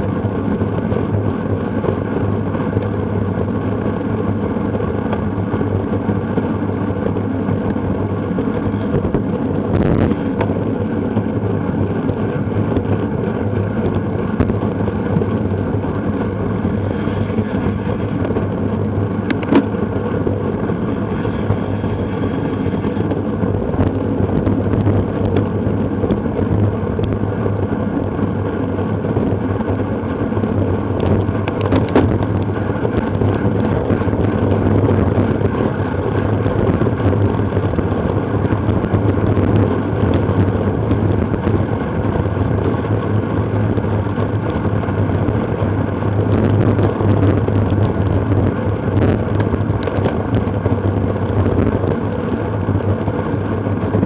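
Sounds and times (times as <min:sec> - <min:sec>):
road noise: 0:00.0 - 0:54.0
wind buffeting microphone: 0:00.0 - 0:54.0.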